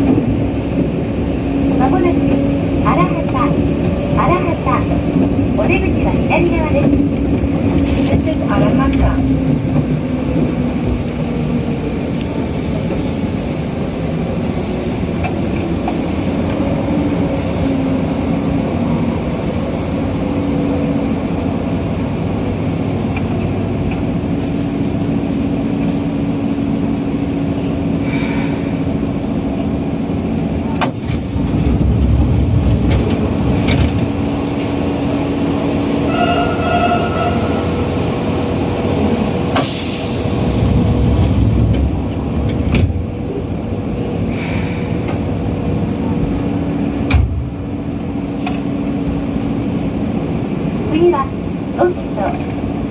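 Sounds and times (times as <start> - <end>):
subway train rumbling in tunnel: 0.0 - 52.9.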